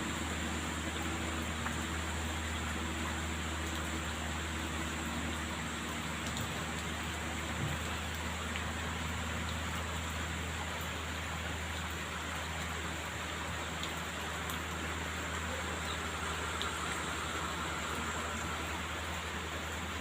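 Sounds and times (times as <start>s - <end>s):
steady rain falling: 0.0s - 20.0s
vehicle engine hum: 0.0s - 20.0s
raindrop ticks: 0.5s - 19.0s.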